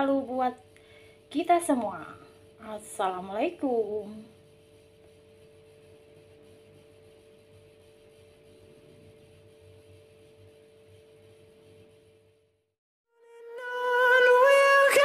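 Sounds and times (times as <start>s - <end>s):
faint steady hum: 0.0s - 12.6s.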